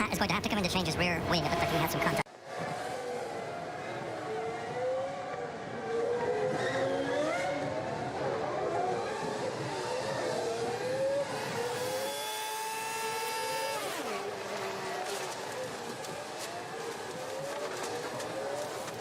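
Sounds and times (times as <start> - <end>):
racing engines at high revs: 0.0 - 19.0.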